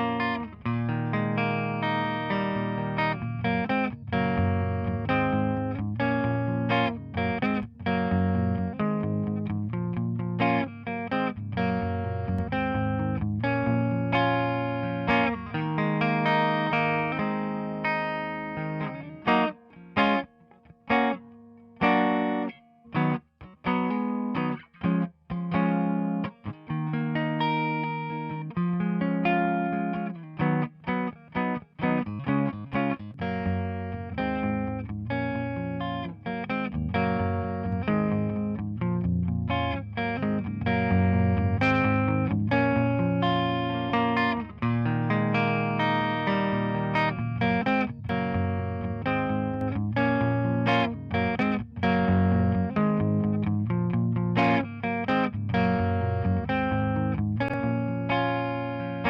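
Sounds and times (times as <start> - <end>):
distorted electric guitar chords: 0.0 - 20.3, 21.8 - 59.0.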